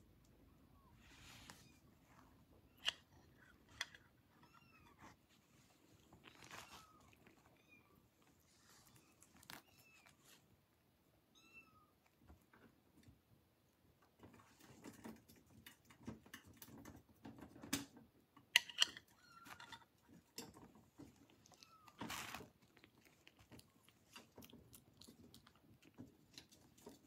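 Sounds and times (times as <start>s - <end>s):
kitten chewing and lapping: 0.1s - 10.9s, 12.0s - 27.0s.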